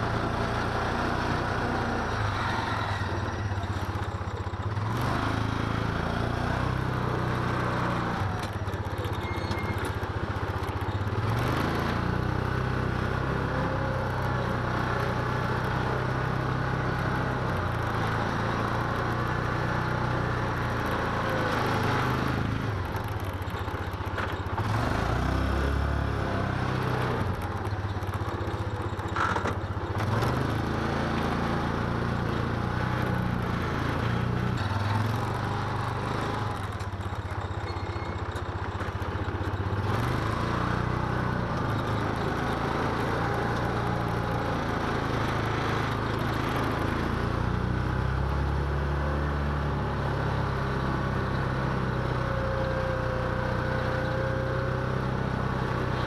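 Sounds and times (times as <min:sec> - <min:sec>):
utility vehicle engine running: 0:00.0 - 0:56.0.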